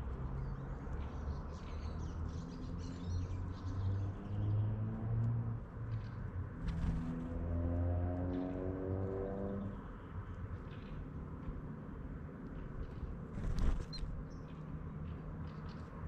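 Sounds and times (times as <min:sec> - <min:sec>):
songbirds chirping: 0:00.0 - 0:06.5, 0:07.6 - 0:16.0.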